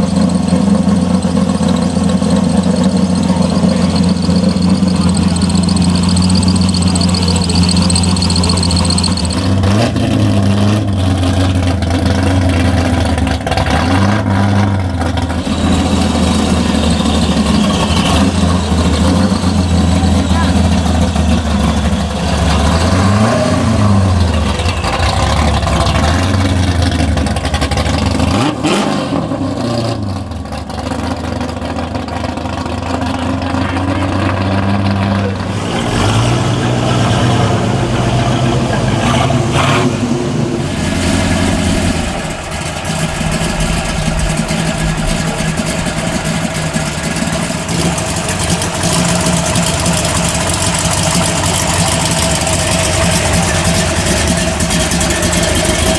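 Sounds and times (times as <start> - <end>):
car engines idling and revving: 0.0 - 55.9.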